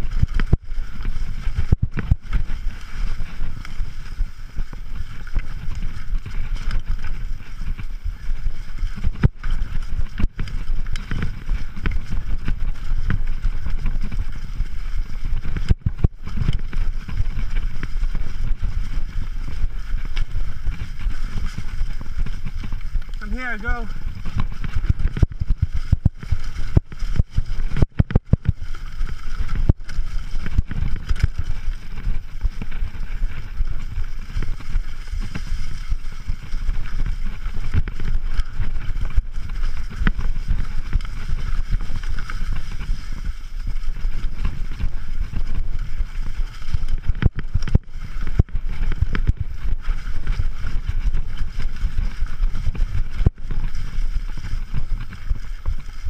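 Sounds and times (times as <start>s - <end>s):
bike knocking and rattling over rocks: 0.0s - 56.0s
wind rumbling on microphone: 0.0s - 56.0s.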